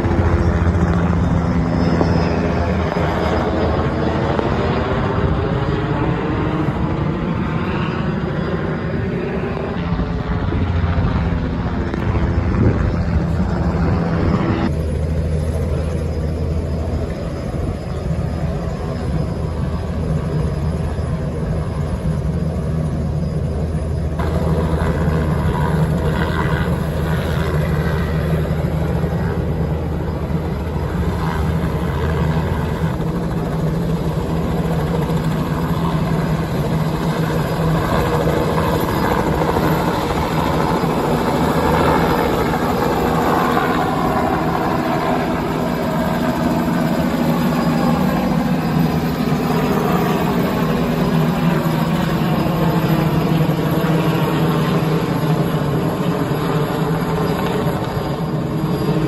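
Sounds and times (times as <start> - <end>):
whine sliding in pitch: 0.0 - 52.4
helicopter rotor and engine: 0.0 - 59.0.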